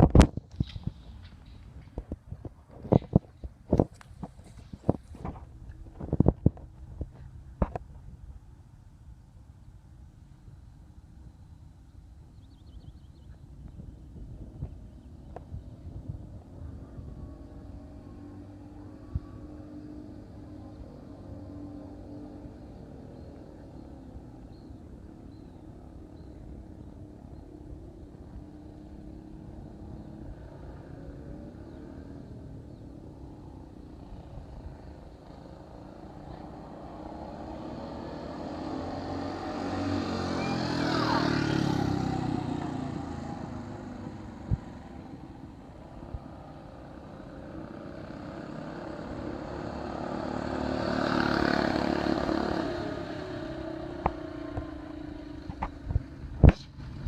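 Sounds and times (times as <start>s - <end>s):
small engine passing by: 10.5s - 57.0s.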